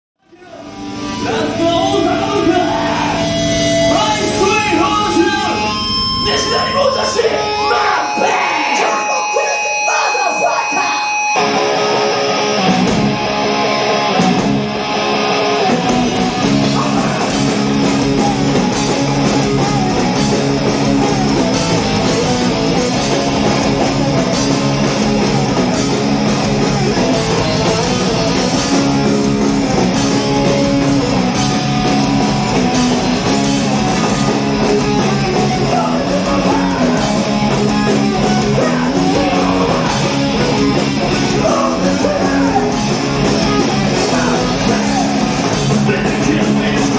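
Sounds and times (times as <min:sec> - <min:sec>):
loud electric guitars: 0:00.2 - 0:46.9
rock band playing live: 0:00.3 - 0:46.9.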